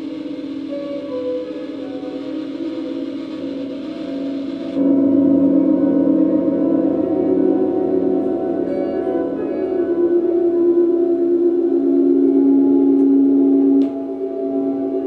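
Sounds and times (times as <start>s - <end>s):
high hiss: 0.0s - 14.5s
electric guitar drone: 0.0s - 15.0s.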